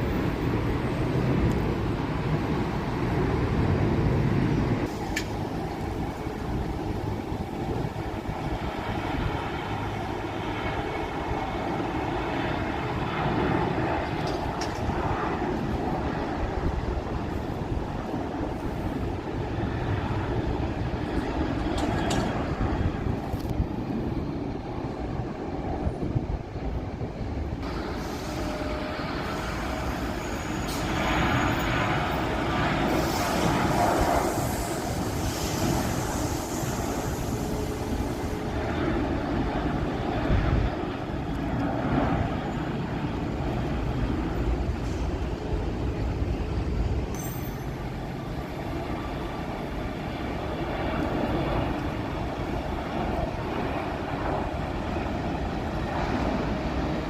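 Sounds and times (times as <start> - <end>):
jet engine rumble: 0.0 - 57.0.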